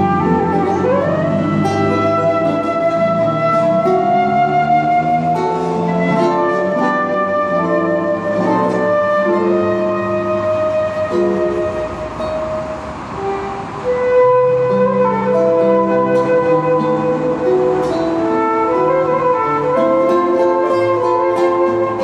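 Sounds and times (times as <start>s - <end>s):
flute playing slow melody: 0.0s - 22.0s
nylon-string guitar: 0.0s - 22.0s.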